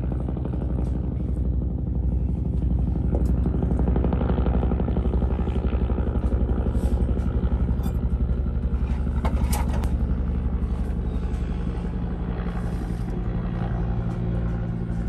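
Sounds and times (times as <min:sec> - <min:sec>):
motor humming steadily: 0:00.0 - 0:15.0.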